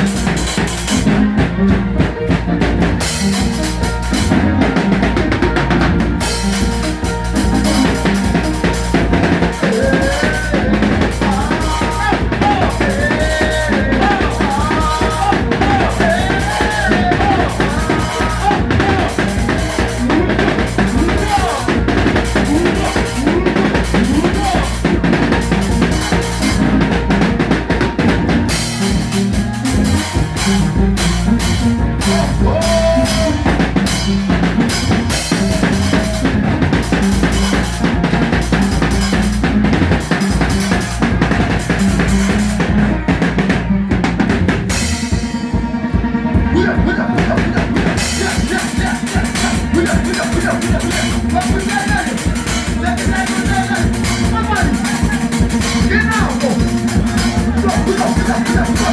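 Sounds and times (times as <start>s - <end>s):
bass line: 0.0s - 58.9s
drum kit beat: 0.0s - 58.9s
pitch-bending lead melody: 0.0s - 58.9s.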